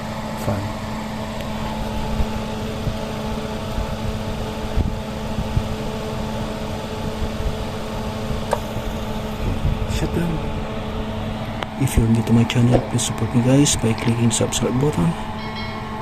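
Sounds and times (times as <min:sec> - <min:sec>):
air conditioner compressor hum: 0:00.0 - 0:16.0
rushing fan noise: 0:00.0 - 0:16.0.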